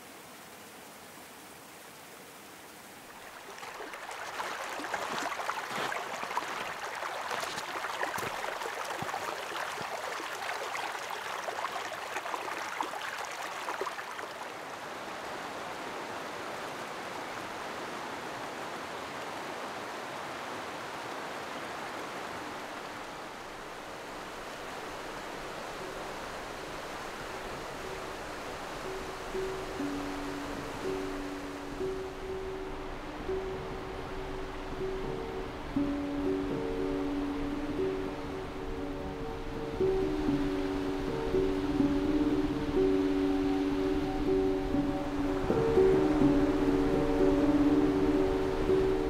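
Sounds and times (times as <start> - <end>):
mountain stream rushing: 0.0 - 49.0.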